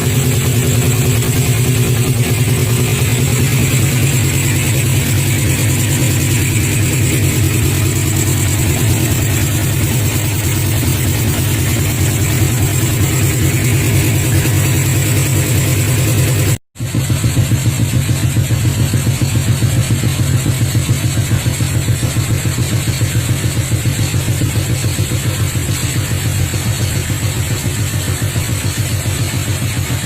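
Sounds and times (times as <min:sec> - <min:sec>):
motorcycle engine running steadily: 0:00.0 - 0:30.0.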